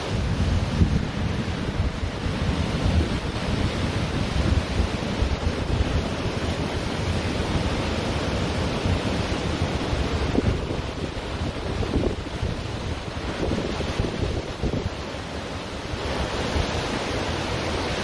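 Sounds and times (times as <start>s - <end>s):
ocean surf on a beach: 0.0s - 18.0s
wind buffeting microphone: 0.0s - 18.0s.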